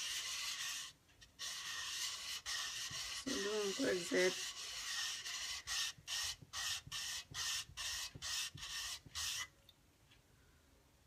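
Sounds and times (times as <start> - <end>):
resin rubbed on wet sandpaper: 0.0 - 9.5.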